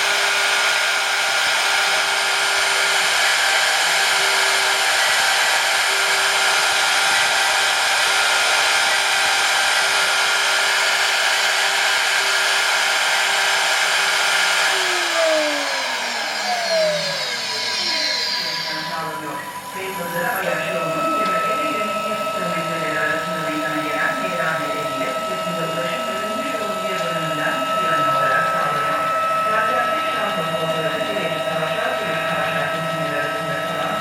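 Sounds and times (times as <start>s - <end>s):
spindle motor whining: 0.0s - 34.0s.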